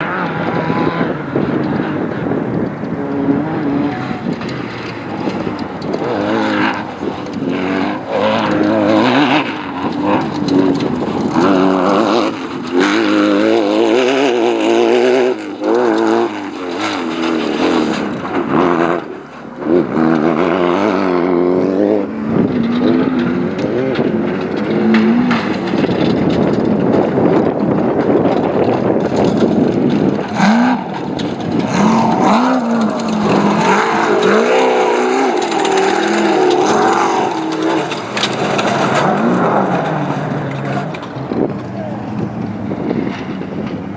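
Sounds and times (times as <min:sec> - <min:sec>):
engine revving: 0:00.0 - 0:43.9.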